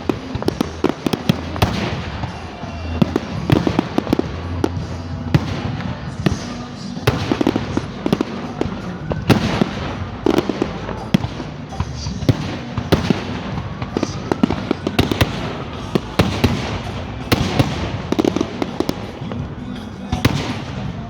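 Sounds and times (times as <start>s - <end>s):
firework whistle: 0.0s - 21.0s
fireworks bangs and crackles: 0.0s - 21.0s.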